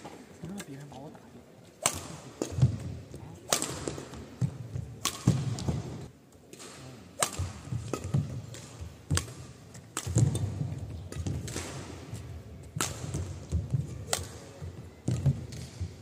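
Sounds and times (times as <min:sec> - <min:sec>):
rackets striking shuttlecock: 0:01.8 - 0:02.9, 0:03.5 - 0:16.0.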